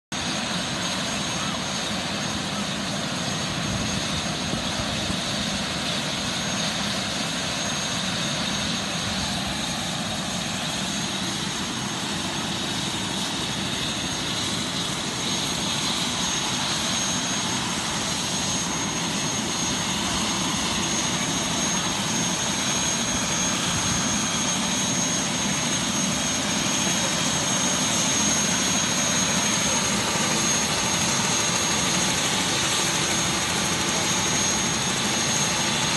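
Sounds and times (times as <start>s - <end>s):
helicopter turbine whine: 0.1s - 35.9s
engine and rotor rushing noise: 0.2s - 35.9s.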